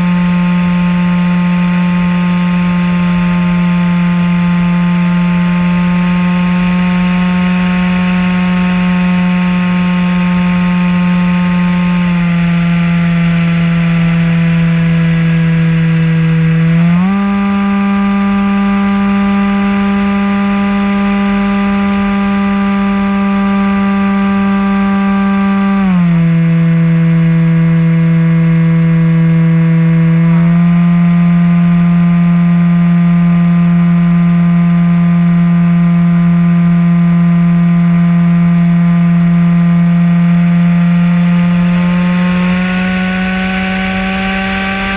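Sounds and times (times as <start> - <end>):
propeller motor humming: 0.0 - 44.9.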